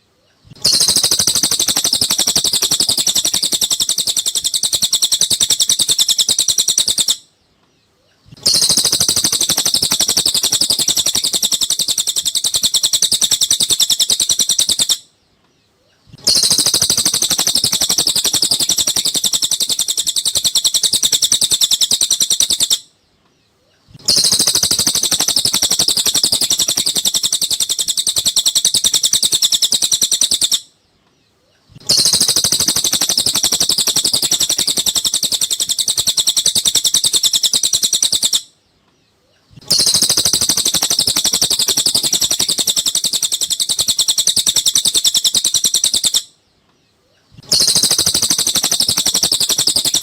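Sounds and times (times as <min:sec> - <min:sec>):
bird chattering trill: 0:00.3 - 0:07.3, 0:08.2 - 0:15.1, 0:15.9 - 0:22.9, 0:23.7 - 0:30.7, 0:31.6 - 0:38.5, 0:39.4 - 0:46.3, 0:47.3 - 0:50.0.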